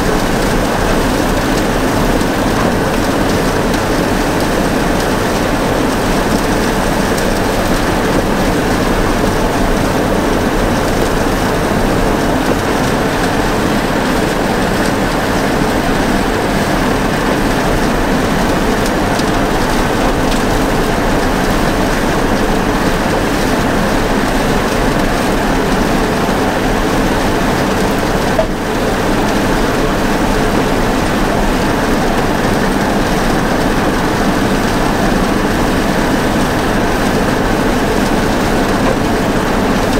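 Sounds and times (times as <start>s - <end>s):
tractor and forage chopper running: 0.0s - 39.9s.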